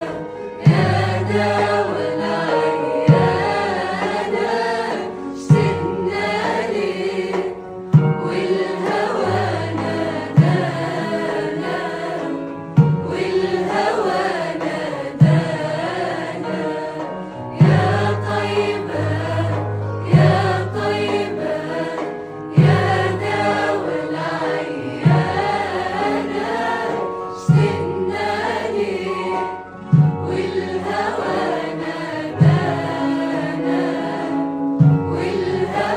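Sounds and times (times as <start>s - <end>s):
chorus of voices singing: 0.0s - 35.9s
deep drum beat: 0.7s - 16.4s, 17.6s - 26.4s, 29.9s - 33.3s, 34.8s - 35.9s.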